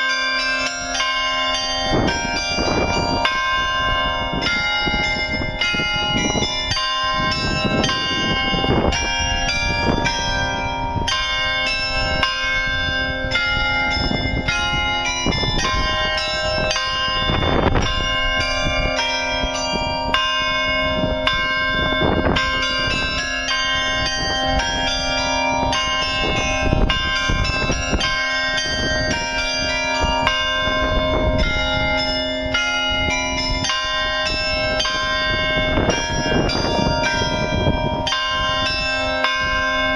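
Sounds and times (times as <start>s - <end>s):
carillon bells playing a tune: 0.0s - 39.9s.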